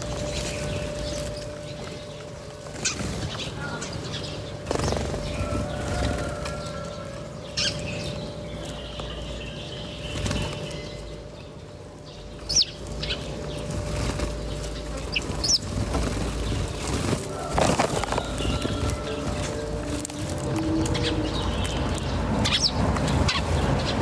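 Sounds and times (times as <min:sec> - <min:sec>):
small birds fluttering wings: 0:00.0 - 0:06.9, 0:10.0 - 0:11.0, 0:12.5 - 0:24.0.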